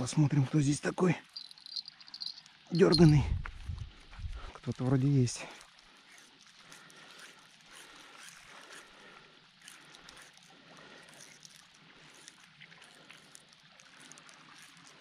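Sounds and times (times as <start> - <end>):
water trickling and lapping: 0.0 - 15.0.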